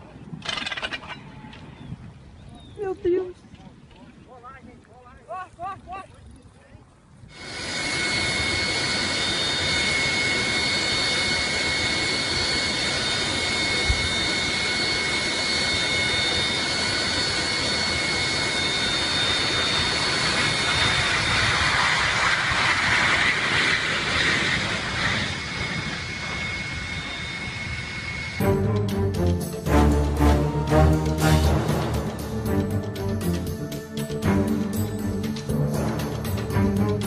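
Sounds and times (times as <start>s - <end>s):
jet engines whining: 7.3s - 37.0s.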